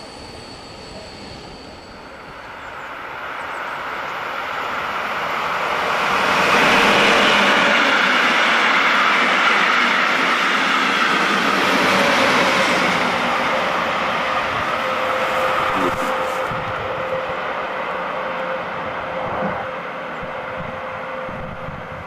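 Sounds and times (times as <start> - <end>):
train wheels rushing on rails: 0.0 - 22.0.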